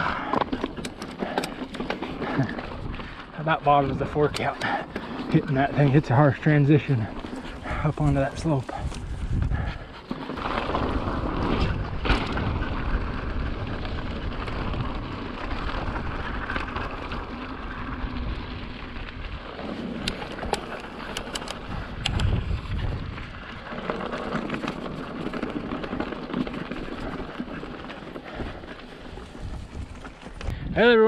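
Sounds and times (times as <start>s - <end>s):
bike rumbling and rattling: 0.0s - 31.0s
bike tyres rolling on rock: 0.0s - 31.0s.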